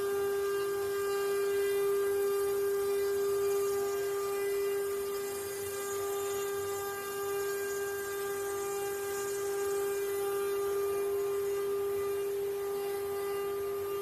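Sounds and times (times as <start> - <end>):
router motor whine: 0.0 - 14.0.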